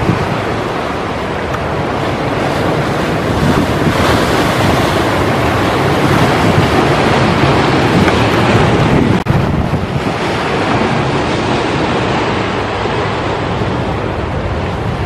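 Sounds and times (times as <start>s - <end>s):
ocean surf washing on shore: 0.0s - 15.0s
wind buffeting microphone: 0.0s - 15.0s.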